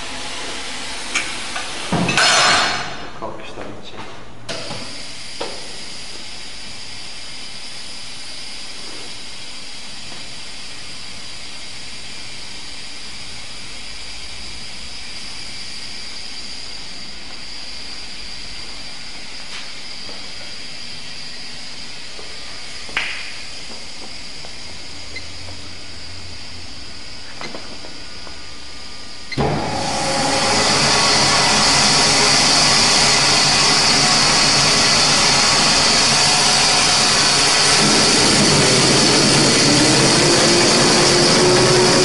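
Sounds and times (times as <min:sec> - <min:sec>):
napkin machine hiss and whine: 0:04.7 - 0:42.0.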